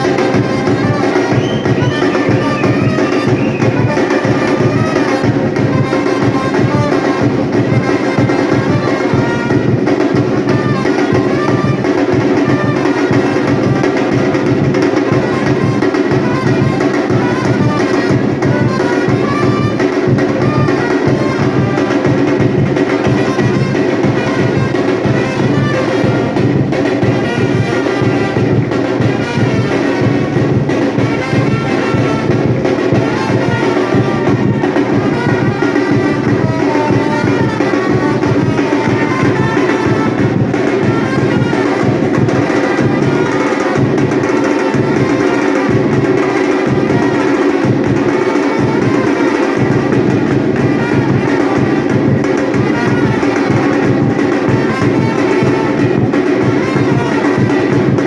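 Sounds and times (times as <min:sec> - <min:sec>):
drums and percussion: 0:00.0 - 0:58.0
trumpets playing melody: 0:00.0 - 0:58.0.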